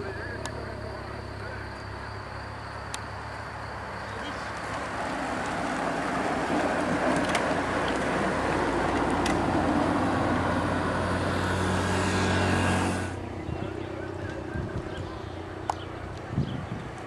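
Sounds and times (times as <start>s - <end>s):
road and wind noise: 0.0s - 17.0s
vehicle engine humming: 0.0s - 17.0s.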